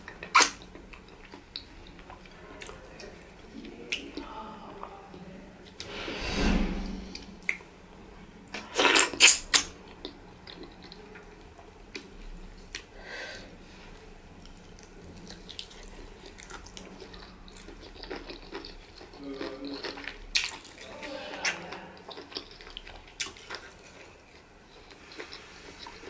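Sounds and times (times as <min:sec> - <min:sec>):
chewing and mouth noises: 0:00.0 - 0:05.0, 0:08.5 - 0:12.9, 0:14.4 - 0:26.0.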